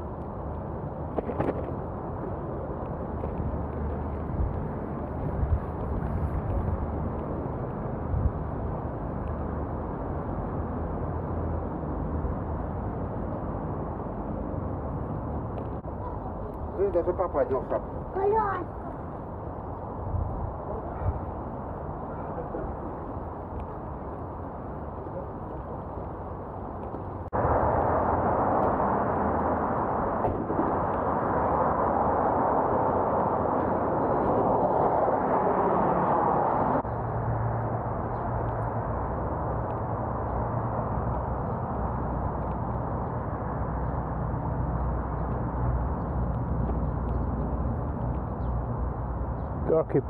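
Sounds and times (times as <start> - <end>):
wind rush: 0.0 - 16.9, 17.7 - 49.7
road noise rumble: 0.0 - 50.0.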